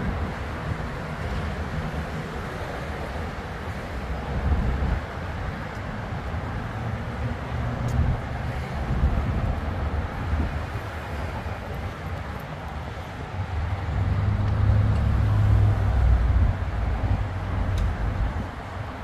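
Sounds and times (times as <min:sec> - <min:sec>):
street traffic passing: 0:00.0 - 0:19.0.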